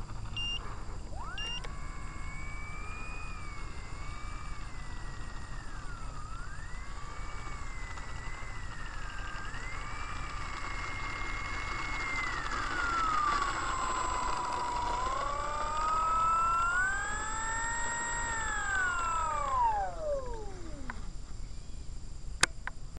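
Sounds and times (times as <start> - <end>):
model airplane motor whining: 0.0 - 21.8.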